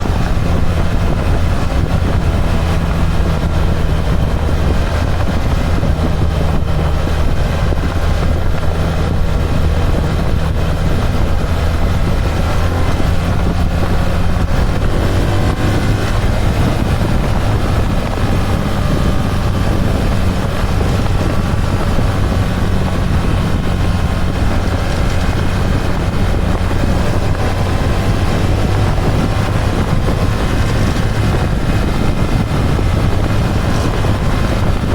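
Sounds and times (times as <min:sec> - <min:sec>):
motorcycle engine running: 0:00.0 - 0:34.9
wind rush: 0:00.0 - 0:34.9.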